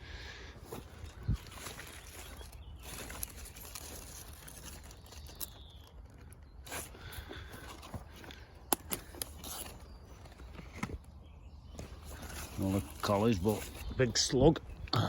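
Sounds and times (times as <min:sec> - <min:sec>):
leaves and stems rustling: 0:00.3 - 0:14.8.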